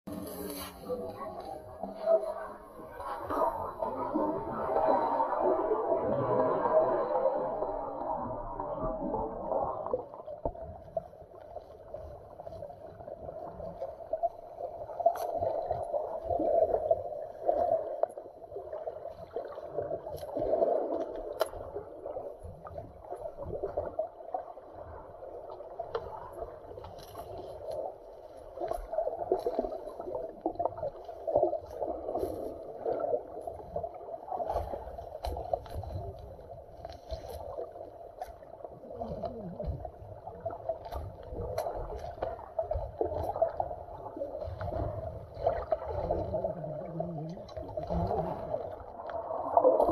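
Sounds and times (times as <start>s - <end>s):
underwater wash of moving water: 0.1s - 49.9s.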